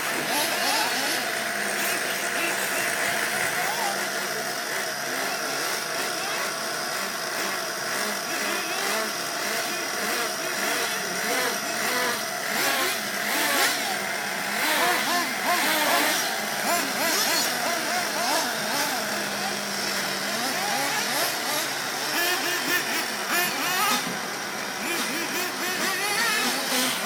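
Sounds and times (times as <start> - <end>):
rc car nitro engine revving: 0.0 - 27.0.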